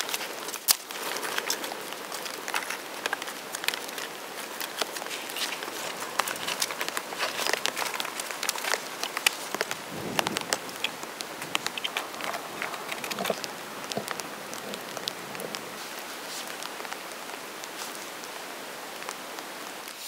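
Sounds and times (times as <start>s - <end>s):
campfire crackling and snapping: 0.0s - 20.0s.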